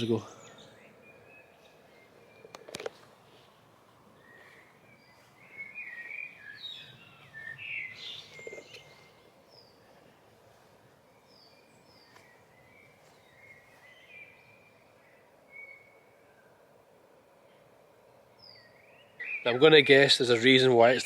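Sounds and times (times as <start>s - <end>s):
faint background noise: 0.0s - 21.0s
songbirds singing: 0.0s - 21.0s.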